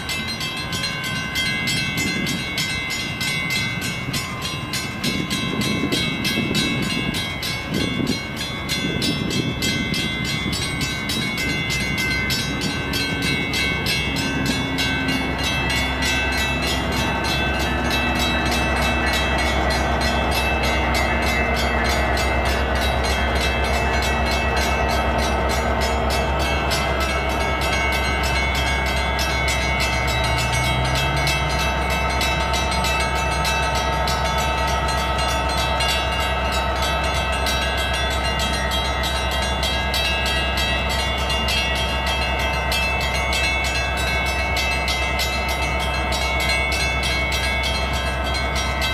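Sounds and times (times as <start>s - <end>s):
crossing bells ringing: 0.0s - 48.9s
locomotive engine drone: 0.0s - 48.9s.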